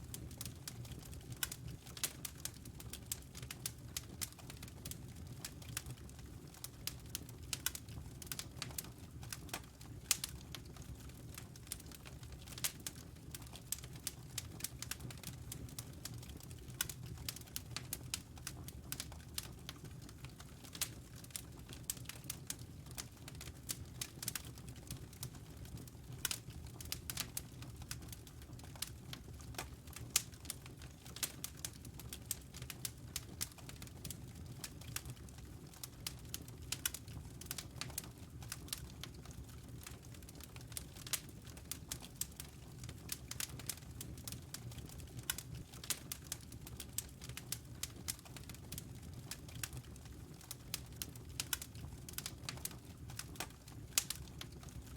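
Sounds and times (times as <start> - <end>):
low fire rumble: 0.0 - 54.9
wood fire crackling and popping: 0.0 - 54.9.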